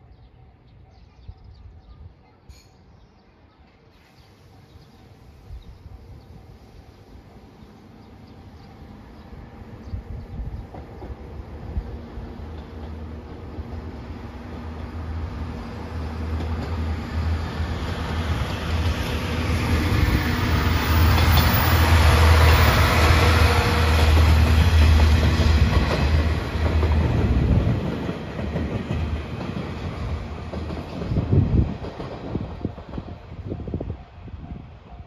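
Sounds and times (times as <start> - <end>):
diesel train engine rumble: 5.2 - 35.0.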